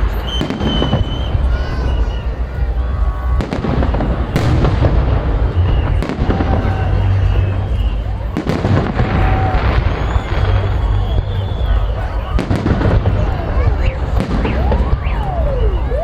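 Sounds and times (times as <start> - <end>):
fireworks bangs: 0.0 - 16.0
fireworks crackle and rumble: 0.0 - 16.0.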